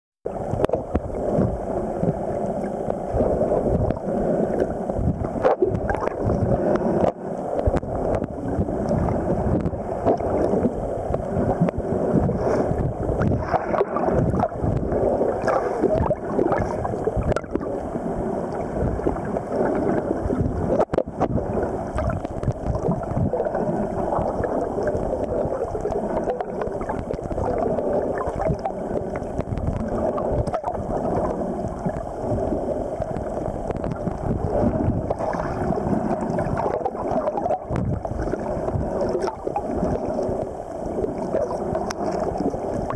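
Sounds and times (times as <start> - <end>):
underwater water rush and bubbling: 0.2 - 42.9.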